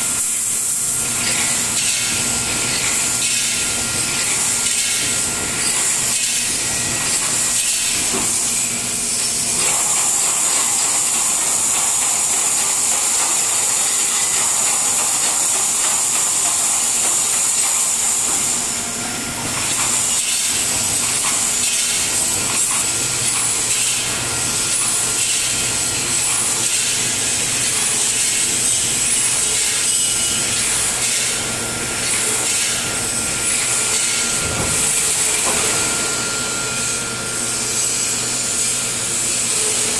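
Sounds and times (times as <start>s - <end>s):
hissing machinery noise: 0.0s - 39.9s.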